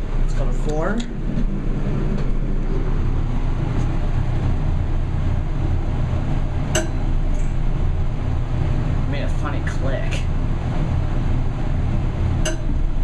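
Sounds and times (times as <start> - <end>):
elevator low rumble: 0.0 - 13.0.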